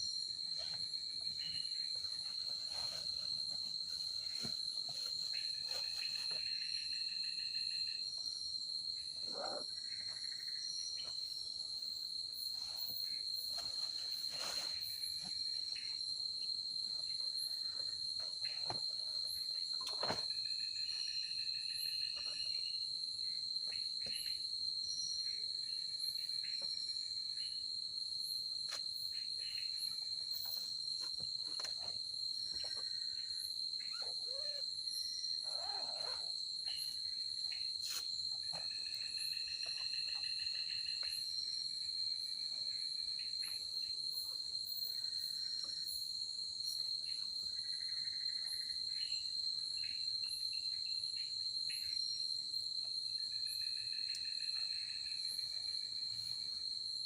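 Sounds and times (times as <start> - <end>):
high-pitched cricket trill: 0.0 - 57.0
insects chirring: 0.0 - 57.0.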